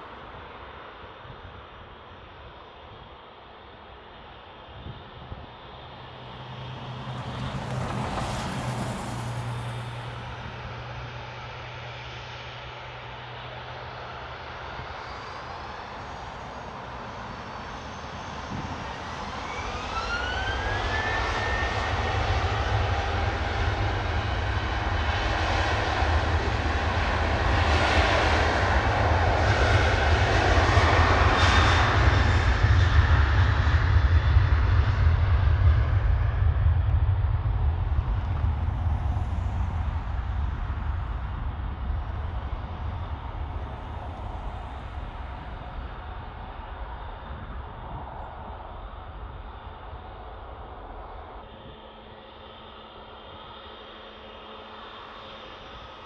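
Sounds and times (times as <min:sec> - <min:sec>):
deep jet engine roar: 0:00.0 - 0:56.0
jet engine whine: 0:00.0 - 0:56.0.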